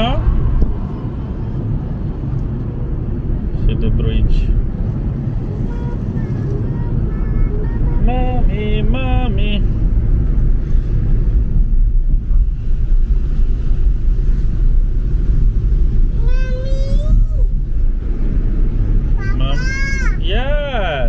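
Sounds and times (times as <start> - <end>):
car cabin road rumble: 0.0 - 21.0.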